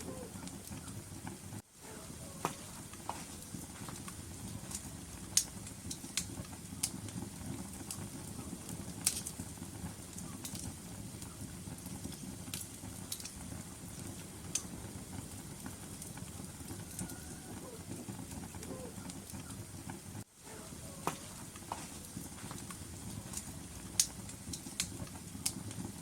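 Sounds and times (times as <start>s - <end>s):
fire rumbling: 0.0s - 26.0s
wood crackling and popping: 0.0s - 26.0s.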